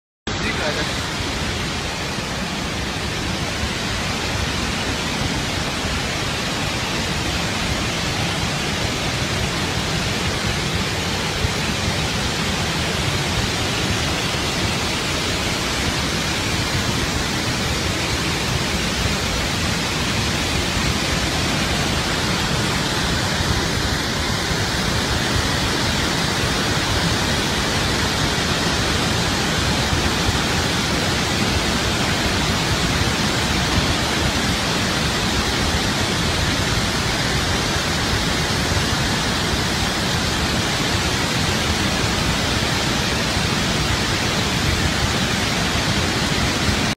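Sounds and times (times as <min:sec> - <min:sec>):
floodwater roaring down spillway: 0:00.3 - 0:46.9.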